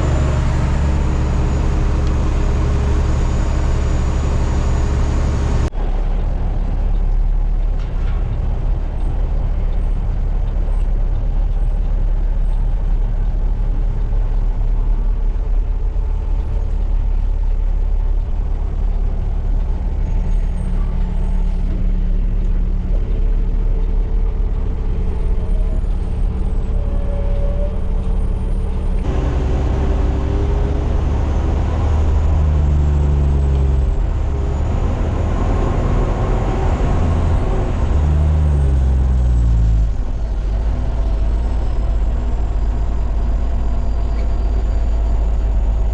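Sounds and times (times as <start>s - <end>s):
diesel truck engine droning: 0.0s - 45.9s.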